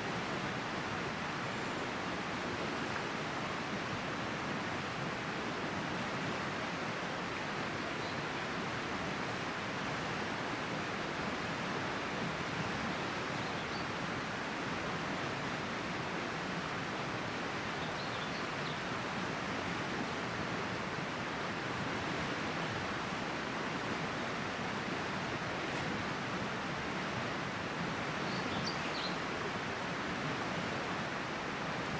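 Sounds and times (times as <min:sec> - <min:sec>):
river water rushing: 0:00.0 - 0:31.9.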